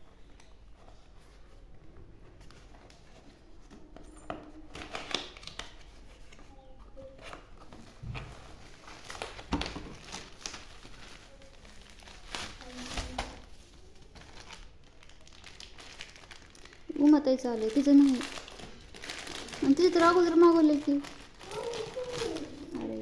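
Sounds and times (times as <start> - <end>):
packaging crinkling and rustling: 2.4 - 6.5, 7.1 - 23.0.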